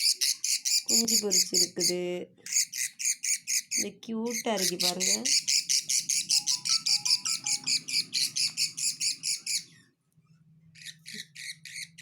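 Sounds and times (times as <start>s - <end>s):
bird chicks chirping: 0.0s - 9.8s, 10.8s - 12.0s.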